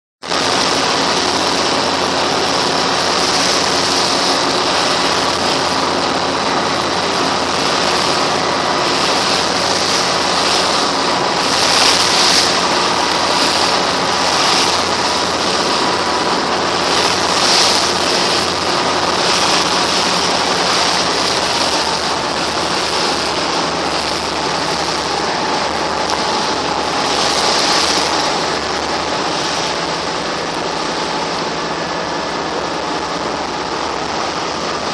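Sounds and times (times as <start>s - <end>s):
boat engine drone: 0.2s - 34.9s
water splashing along hull: 0.2s - 34.9s.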